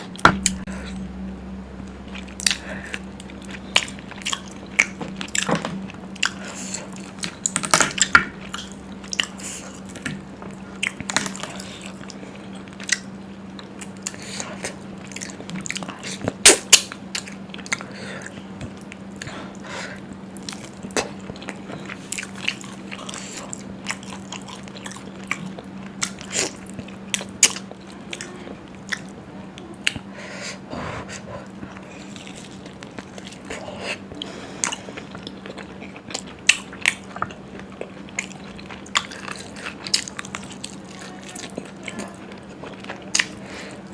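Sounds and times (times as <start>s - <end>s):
person chewing food: 0.0s - 1.2s, 1.8s - 30.1s, 31.1s - 43.9s
faint steady hum: 0.0s - 43.9s.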